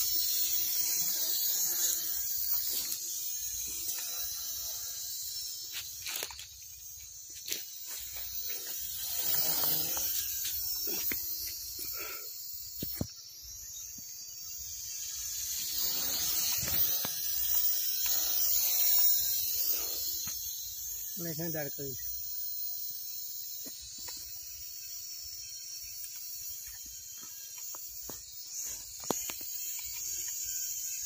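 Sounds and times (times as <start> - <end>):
toy drone high-pitched whine: 0.0 - 31.0.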